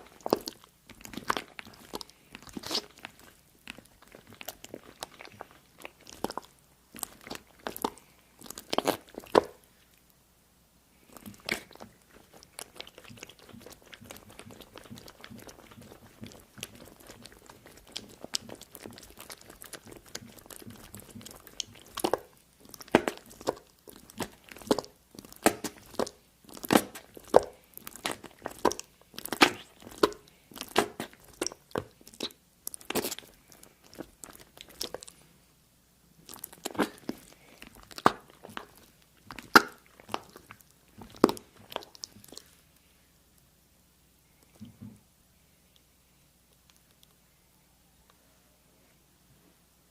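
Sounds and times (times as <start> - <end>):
crunchy food being chewed: 0.0 - 10.2, 10.9 - 35.3, 36.2 - 42.9, 46.5 - 47.2.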